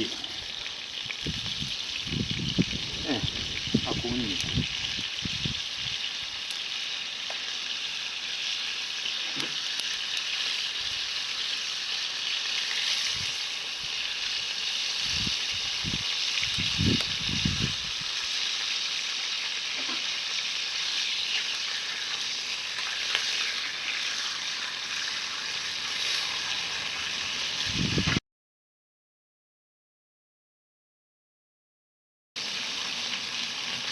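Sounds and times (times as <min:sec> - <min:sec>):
meat sizzling on a grill: 0:00.0 - 0:28.2, 0:32.4 - 0:33.9.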